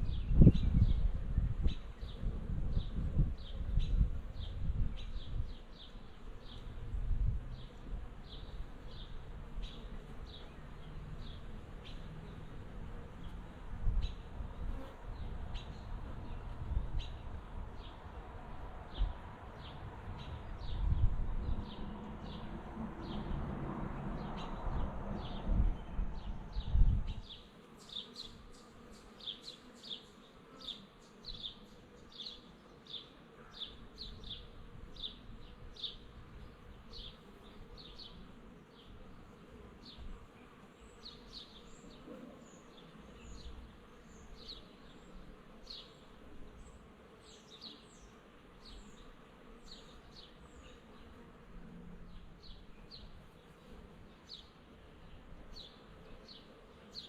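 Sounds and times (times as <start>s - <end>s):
bee swarm humming: 0.1s - 57.0s.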